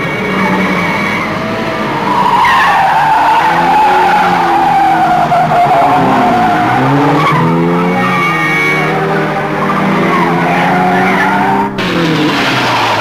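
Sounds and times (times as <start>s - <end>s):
car tyres squealing: 0.0s - 13.0s
engines revving: 0.0s - 13.0s.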